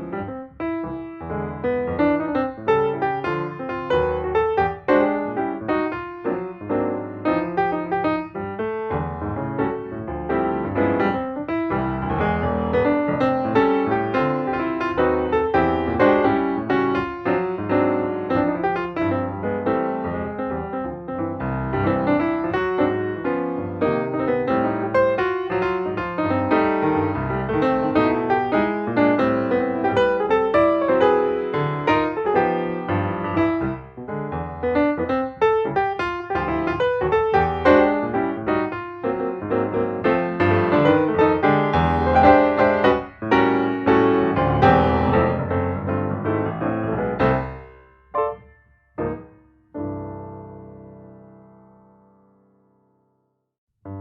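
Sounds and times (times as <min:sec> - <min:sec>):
piano music: 0:00.0 - 0:53.2.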